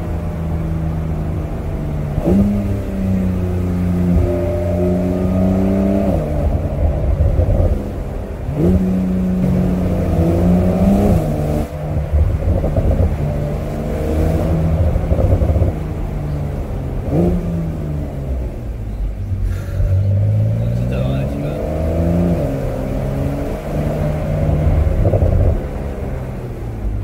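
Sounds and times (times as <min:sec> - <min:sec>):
car engine running at speed: 0:00.0 - 0:27.0.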